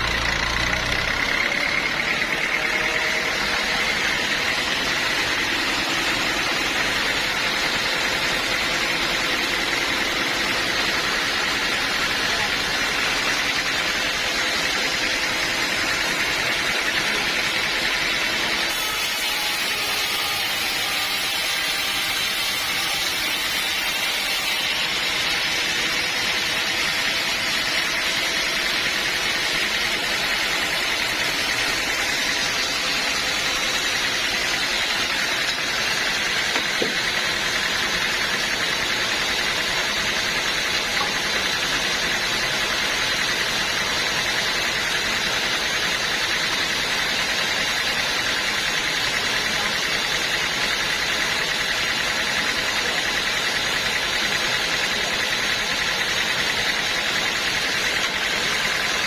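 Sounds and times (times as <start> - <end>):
high mechanical whine: 0.0 - 59.0
sawmill machinery running: 0.0 - 59.0.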